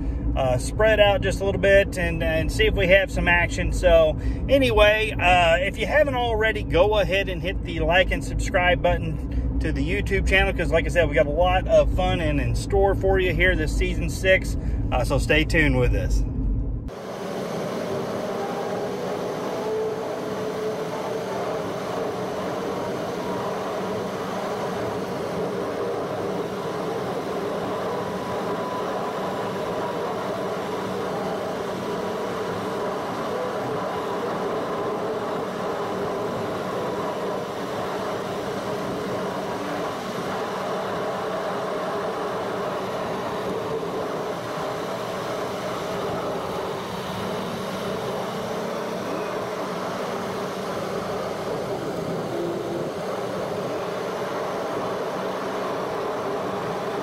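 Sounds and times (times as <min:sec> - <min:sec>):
car interior road and engine noise: 0:00.0 - 0:57.0.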